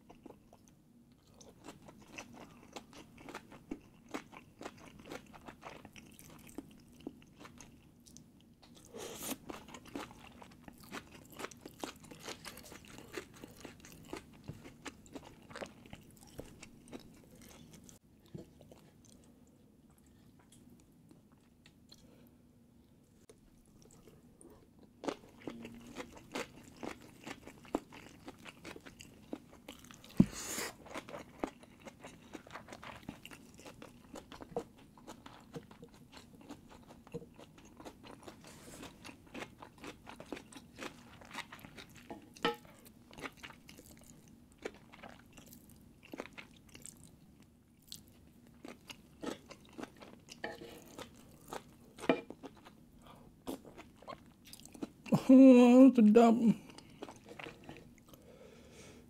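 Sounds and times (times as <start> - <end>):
person chewing with wet smacks: 0.0 - 19.3, 24.8 - 52.8, 53.4 - 55.1, 56.6 - 58.2.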